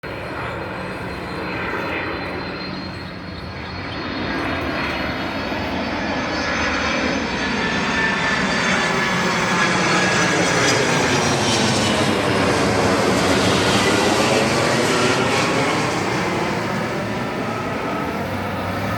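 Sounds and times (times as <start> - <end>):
jet engines rumbling and whining: 0.0 - 18.9.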